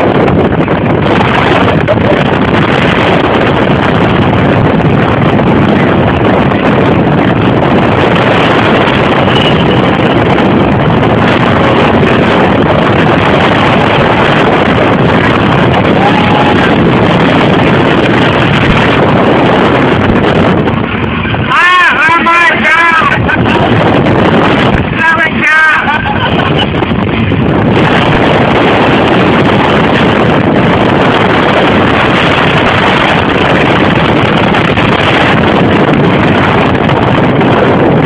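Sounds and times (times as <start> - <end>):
fans blasting wind on microphone: 0.0 - 38.0.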